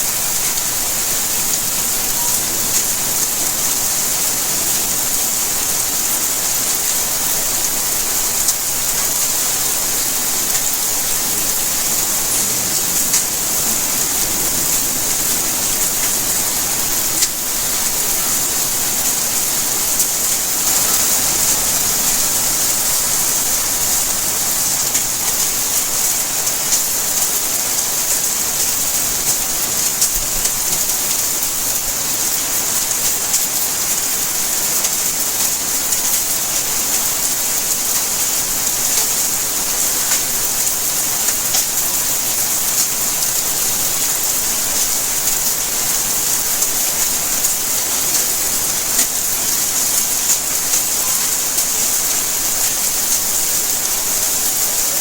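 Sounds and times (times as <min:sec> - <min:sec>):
rain hissing: 0:00.0 - 0:55.0
raindrops pattering on surfaces: 0:00.0 - 0:55.0.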